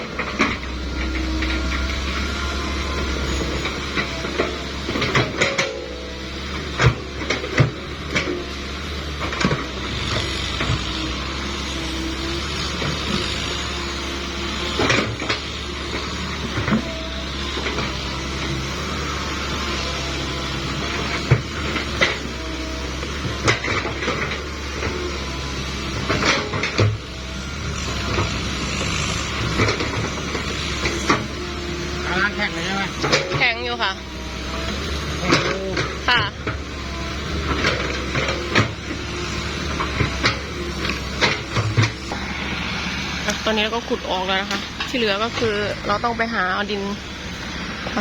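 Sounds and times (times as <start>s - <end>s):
low engine hum: 0.0s - 48.0s.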